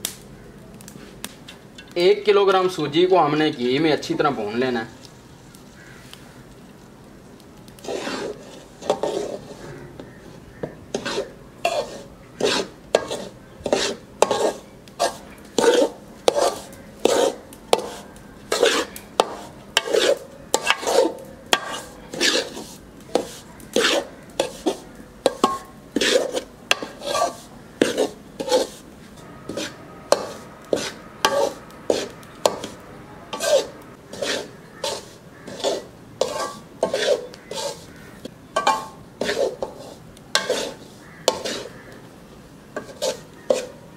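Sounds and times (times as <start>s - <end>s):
metal spoon scraping pan: 7.7s - 42.0s, 42.7s - 43.9s.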